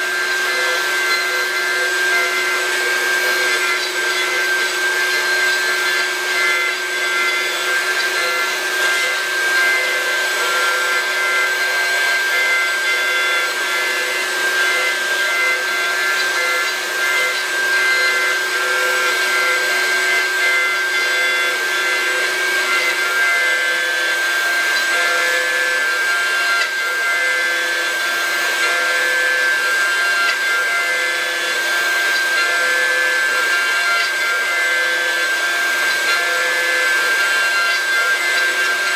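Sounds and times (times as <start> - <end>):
router spindle whine: 0.0 - 38.9
cutter chewing through wood: 0.1 - 38.9.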